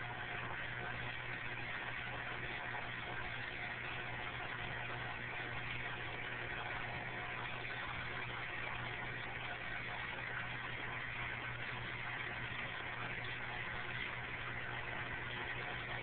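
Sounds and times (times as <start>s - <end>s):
filter pump hum: 0.0s - 16.0s.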